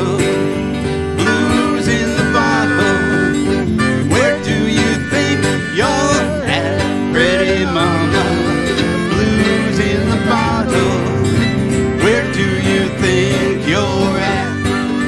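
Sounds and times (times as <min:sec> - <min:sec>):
harmonica with bending notes: 0:00.0 - 0:15.0
plucked strings: 0:00.0 - 0:15.0
strummed acoustic guitar: 0:00.0 - 0:15.0.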